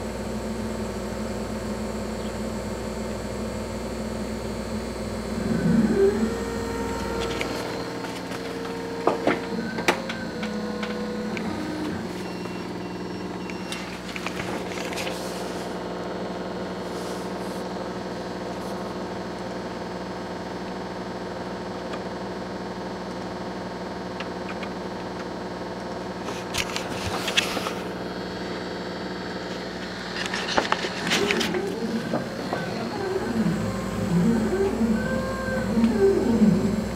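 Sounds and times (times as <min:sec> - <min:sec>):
laser cutter humming: 0:00.0 - 0:22.8, 0:23.4 - 0:36.9.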